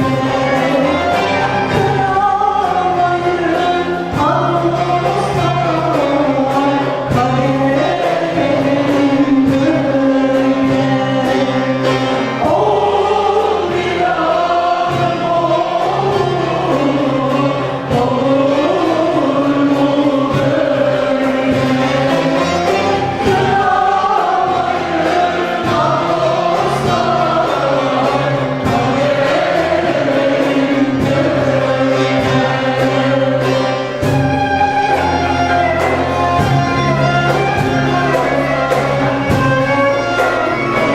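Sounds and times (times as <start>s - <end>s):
choir singing folk music: 0.0s - 40.9s
instrumental accompaniment: 0.0s - 40.9s
steady percussion beat: 0.0s - 40.9s.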